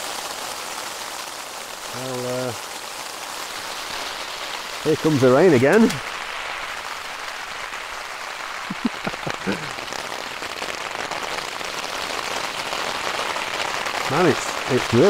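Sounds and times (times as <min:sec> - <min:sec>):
heavy rain on tent fabric: 0:00.0 - 0:15.0.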